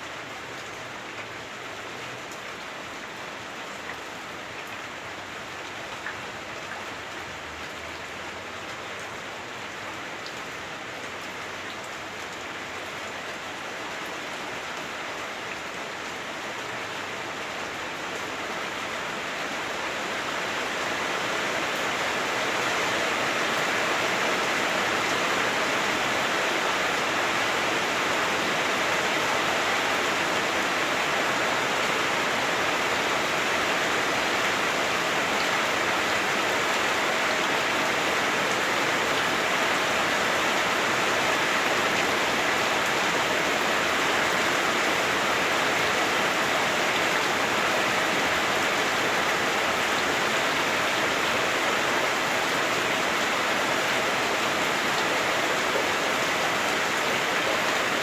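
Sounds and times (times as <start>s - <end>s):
heavy rain drumming on a roof: 0.0s - 58.0s.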